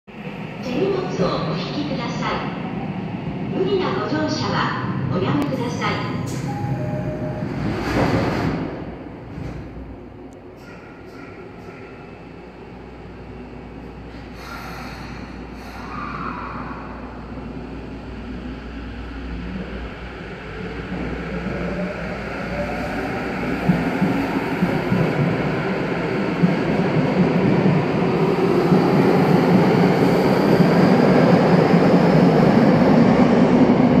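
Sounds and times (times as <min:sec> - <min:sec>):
subway train pulling out: 0:00.1 - 0:34.0.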